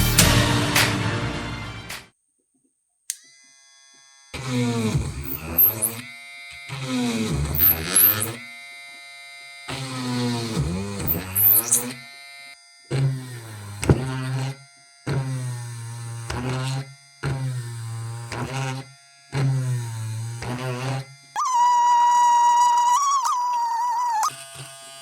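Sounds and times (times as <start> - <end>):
small drill motor whirring: 3.1 - 25.0.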